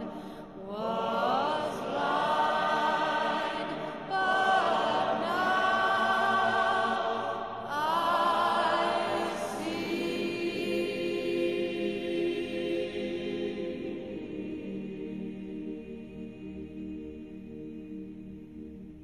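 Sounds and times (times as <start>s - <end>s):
choir singing slowly: 0.0s - 19.0s.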